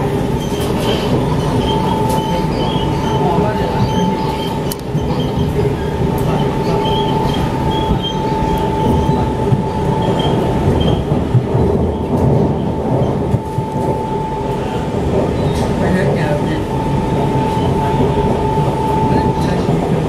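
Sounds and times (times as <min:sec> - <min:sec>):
metro train rumble: 0:00.0 - 0:20.0.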